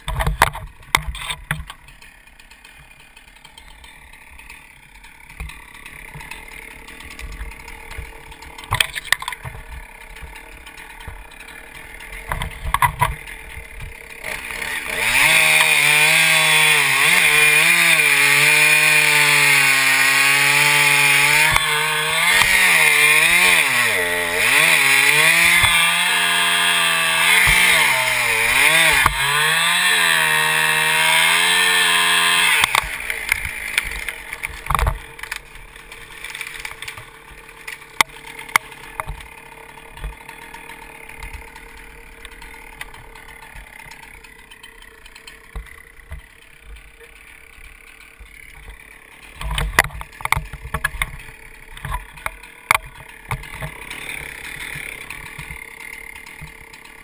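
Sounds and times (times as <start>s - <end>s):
chainsaw running at high revs: 0.0s - 57.0s.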